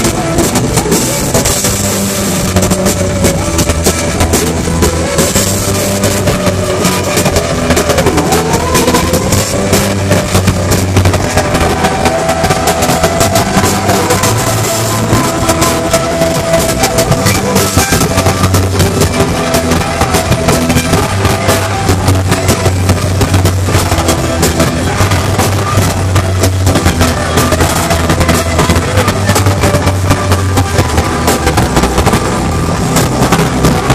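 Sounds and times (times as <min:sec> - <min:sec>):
bass guitar: 0:00.0 - 0:33.9
drum kit: 0:00.0 - 0:33.9
electric guitars: 0:00.0 - 0:33.9.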